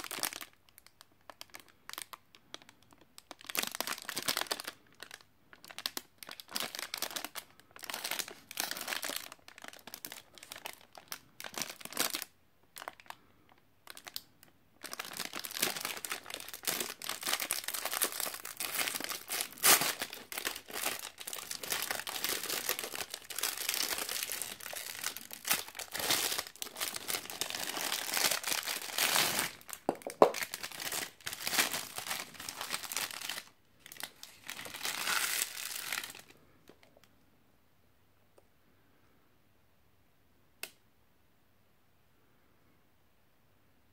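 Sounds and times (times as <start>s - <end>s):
plastic wrapper crinkling: 0.0s - 37.1s.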